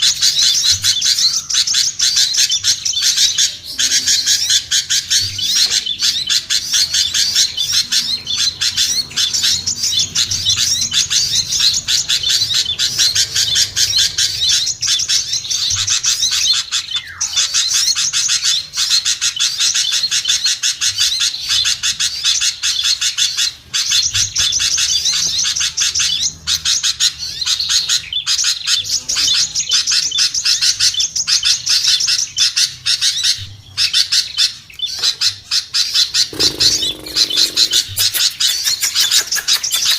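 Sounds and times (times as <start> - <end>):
songbirds twittering: 0.0 - 39.9.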